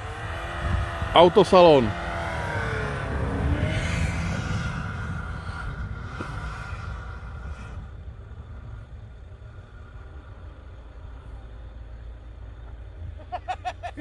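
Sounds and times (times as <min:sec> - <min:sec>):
distant car engine running: 0:00.0 - 0:14.0
steady low rumble: 0:00.0 - 0:14.0.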